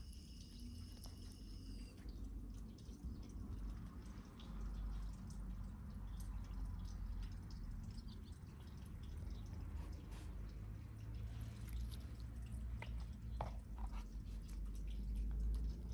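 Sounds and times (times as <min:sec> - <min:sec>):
kittens chewing fish: 0:02.0 - 0:15.9.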